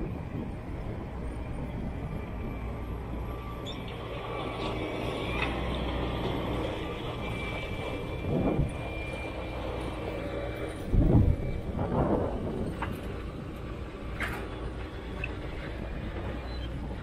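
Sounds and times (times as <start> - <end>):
heavy diesel machines digging: 0.0 - 17.0.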